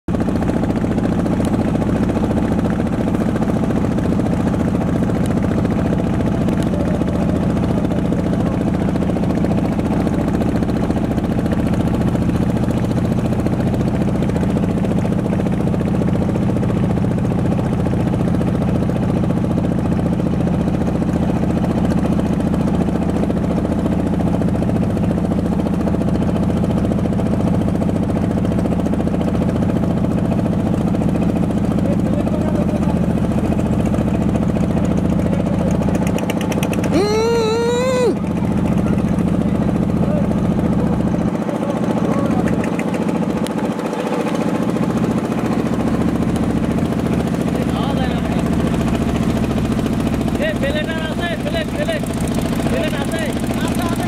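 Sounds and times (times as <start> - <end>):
boat engine droning: 0.1 - 54.0.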